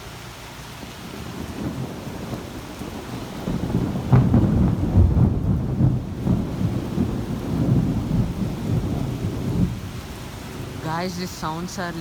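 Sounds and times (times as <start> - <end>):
steady rain: 0.0 - 12.0
thunder crack and rumble: 0.8 - 11.0.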